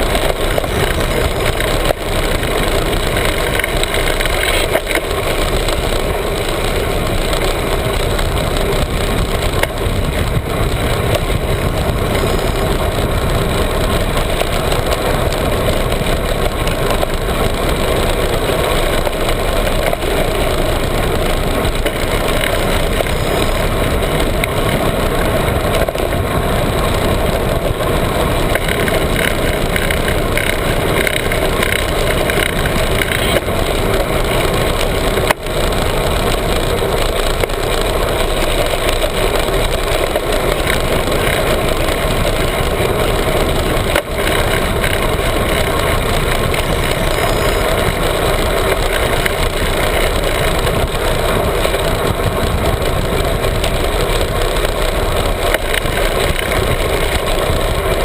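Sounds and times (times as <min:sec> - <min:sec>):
loud wash of noise: 0:00.0 - 0:58.0
vehicle engine running: 0:00.0 - 0:58.0.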